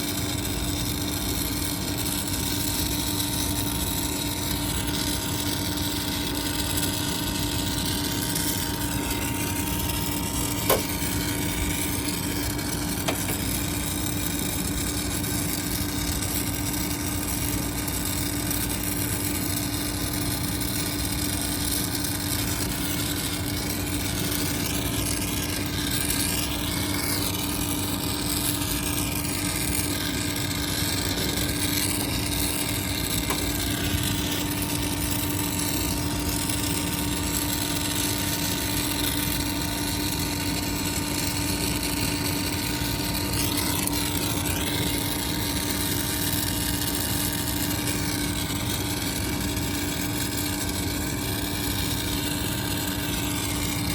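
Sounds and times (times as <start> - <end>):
machine humming and hissing: 0.0 - 53.9.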